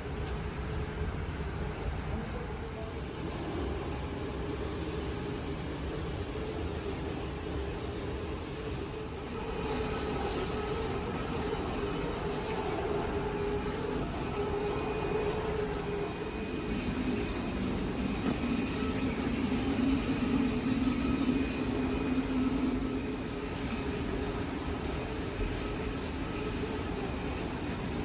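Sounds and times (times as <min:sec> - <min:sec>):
mechanical hum: 0:00.0 - 0:28.0.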